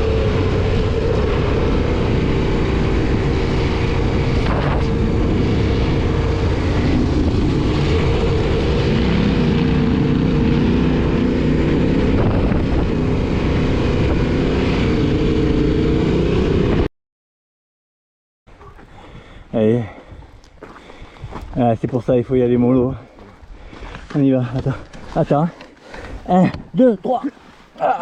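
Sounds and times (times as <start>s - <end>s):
wind and road noise: 0.0s - 16.9s, 18.5s - 28.0s.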